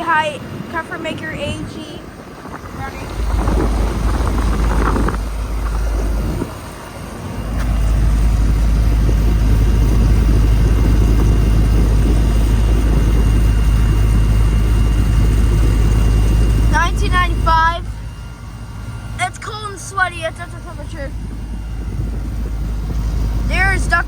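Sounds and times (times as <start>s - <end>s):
air conditioner unit humming: 0.0s - 24.0s.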